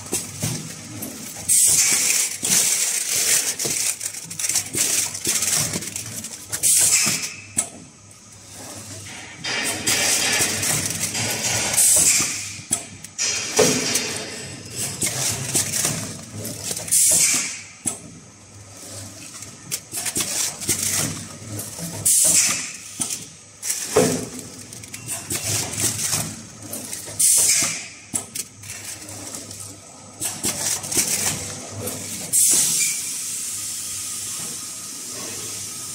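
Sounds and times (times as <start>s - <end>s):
packaging machine running: 0.0s - 35.9s.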